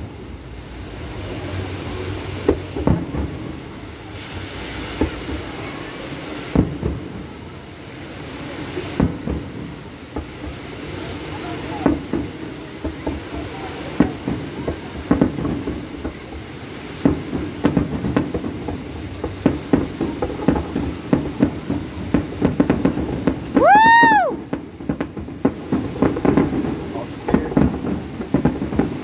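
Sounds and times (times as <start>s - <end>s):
firework whistle: 0.0s - 29.0s
fireworks bangs and crackling pops: 0.0s - 29.0s.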